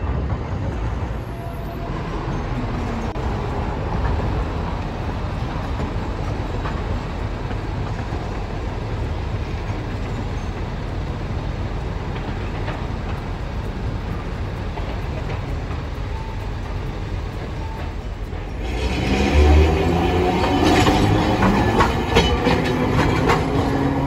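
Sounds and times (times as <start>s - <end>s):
passing road traffic: 0.0s - 24.0s
tram rolling rumble: 0.0s - 24.0s.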